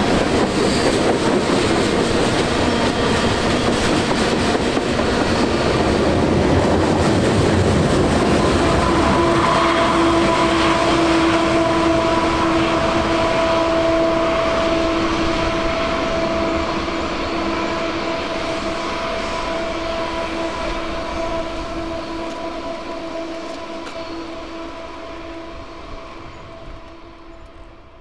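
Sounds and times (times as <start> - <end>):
diesel locomotive engine drone: 0.0 - 28.0
rail and wheel rumble: 0.0 - 28.0.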